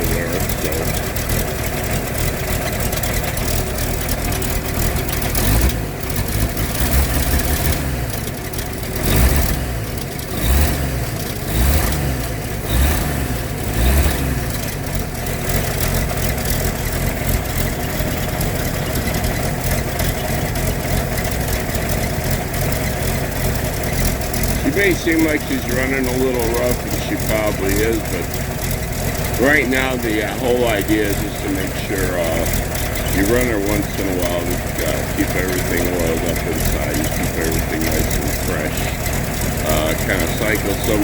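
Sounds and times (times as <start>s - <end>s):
car engine running rough: 0.0s - 41.0s.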